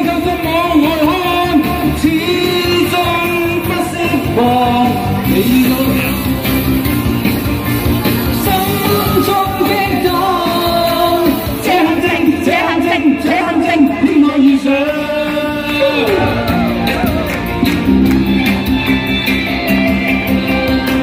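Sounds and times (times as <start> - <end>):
pop ballad with backing track: 0.0 - 21.0.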